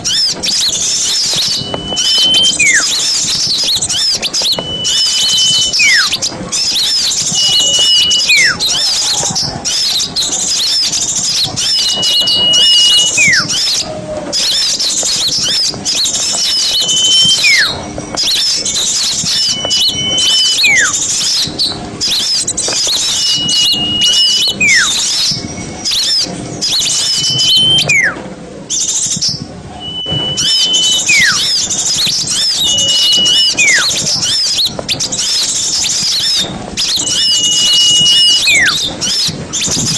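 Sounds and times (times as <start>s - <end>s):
whistle with falling slide: 0.0s - 28.2s, 28.8s - 39.9s
small birds chattering: 0.0s - 39.9s.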